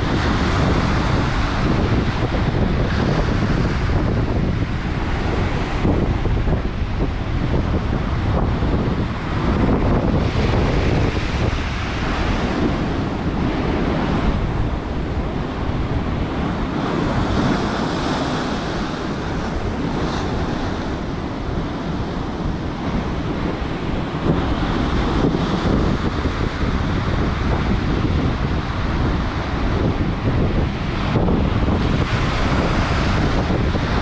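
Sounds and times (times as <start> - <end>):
surf breaking on shore: 0.0 - 34.0
wind buffeting microphone: 0.0 - 34.0.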